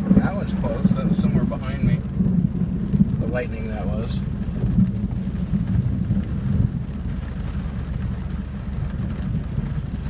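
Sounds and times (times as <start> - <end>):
thunder rumbling: 0.0 - 10.0.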